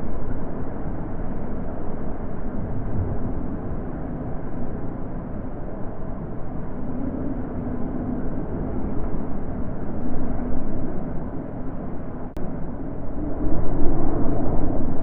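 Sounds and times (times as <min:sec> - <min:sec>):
steady wind rushing: 0:00.0 - 0:15.0.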